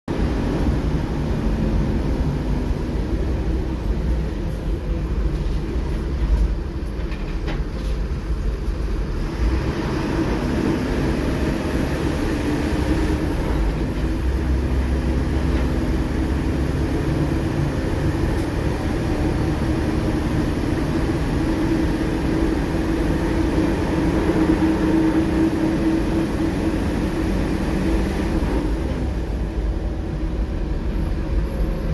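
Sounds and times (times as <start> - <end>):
bus engine and road rumble: 0.1 - 31.9.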